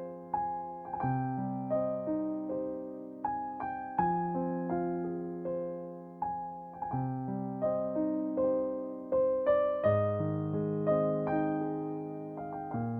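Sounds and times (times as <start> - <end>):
gentle solo piano: 0.0 - 12.9.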